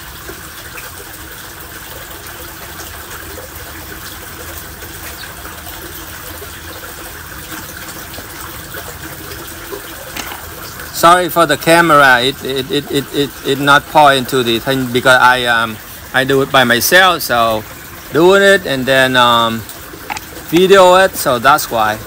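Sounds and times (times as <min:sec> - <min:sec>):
rushing water-like noise: 0:00.0 - 0:22.0.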